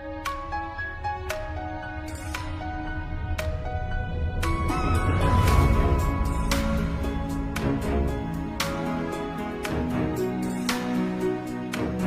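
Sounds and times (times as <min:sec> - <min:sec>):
soft instrumental music with beat: 0:00.0 - 0:12.0.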